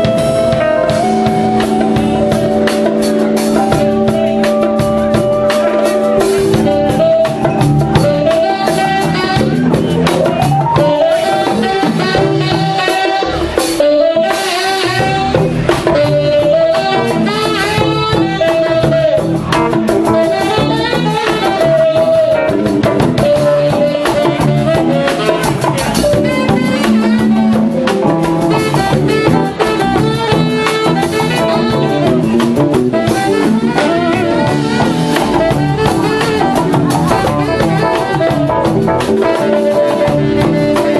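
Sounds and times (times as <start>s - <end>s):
band playing latin jazz groove: 0.0s - 40.9s
melodic lead line: 0.0s - 40.9s.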